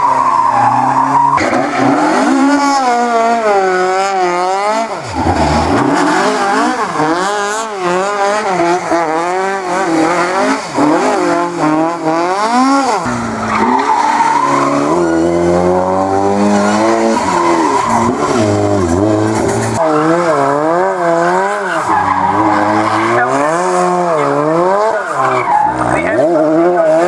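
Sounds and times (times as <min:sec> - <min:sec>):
rally car engines revving: 0:00.0 - 0:27.0
tyres skidding and squealing: 0:00.0 - 0:27.0.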